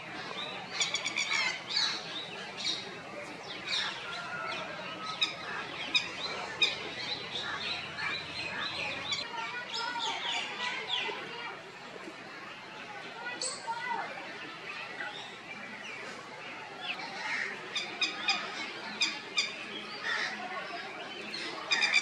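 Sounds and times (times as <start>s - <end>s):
birds chirping: 0.0s - 11.1s, 12.9s - 22.0s.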